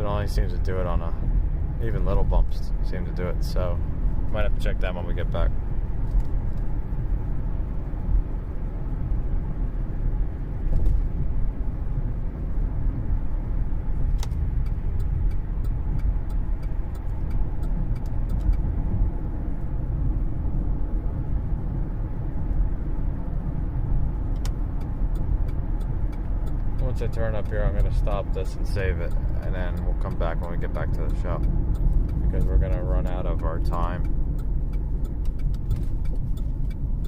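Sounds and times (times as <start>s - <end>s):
road and drivetrain rumble in car: 0.0s - 37.0s.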